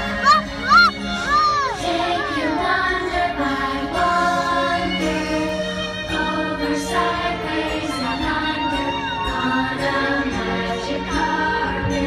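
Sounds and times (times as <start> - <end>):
choir holding sustained notes: 1.6 - 12.0.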